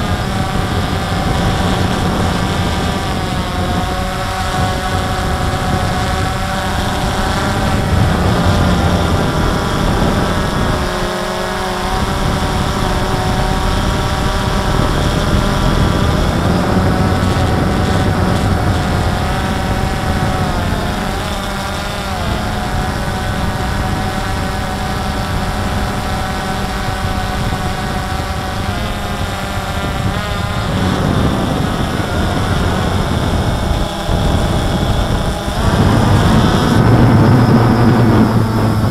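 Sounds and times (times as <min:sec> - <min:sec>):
drone propellers whining: 0:00.0 - 0:38.9
rumbling wind: 0:00.0 - 0:38.9.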